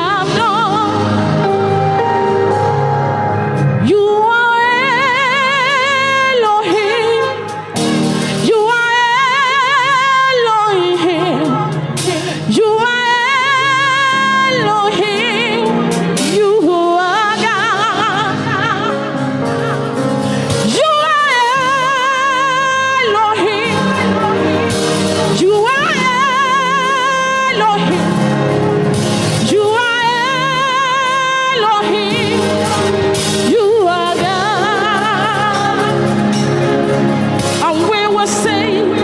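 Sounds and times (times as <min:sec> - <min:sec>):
woman singing gospel song: 0:00.0 - 0:01.8, 0:03.7 - 0:39.0
instrumental backing: 0:00.0 - 0:39.0.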